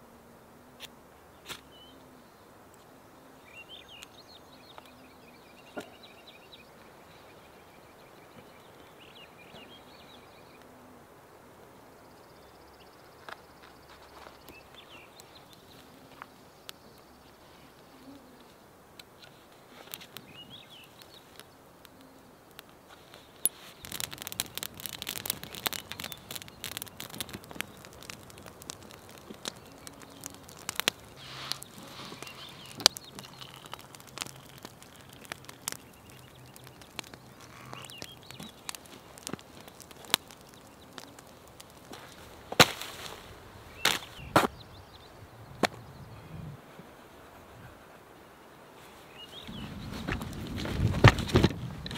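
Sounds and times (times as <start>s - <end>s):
campfire crackling and popping: 0.8s - 1.9s, 2.5s - 46.3s, 48.7s - 51.9s.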